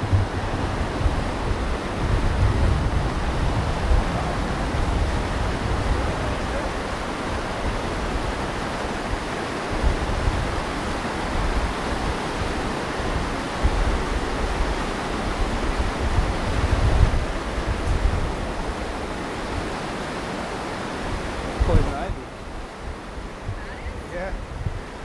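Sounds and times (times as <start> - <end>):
low rumble of rapids: 0.0 - 25.0
water rushing over rocks: 0.0 - 25.0.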